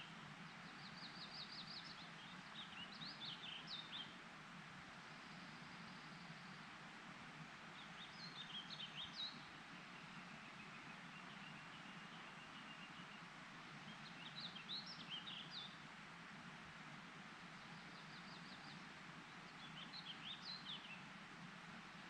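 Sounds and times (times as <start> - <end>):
faint rushing hiss: 0.0 - 22.0.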